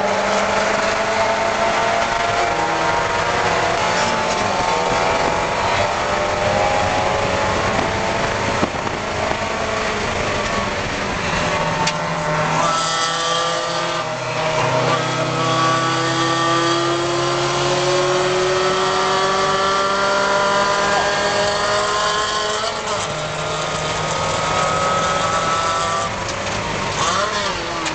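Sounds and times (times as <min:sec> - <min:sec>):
race car engine accelerating: 0:00.0 - 0:27.9.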